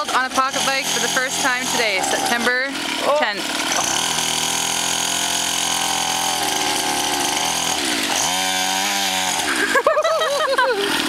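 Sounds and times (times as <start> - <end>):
small dirt bike engine running: 0.0 - 11.0.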